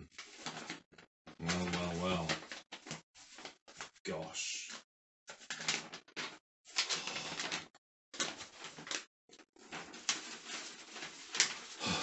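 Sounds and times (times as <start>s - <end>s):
paper rustling and crinkling: 0.1s - 12.0s.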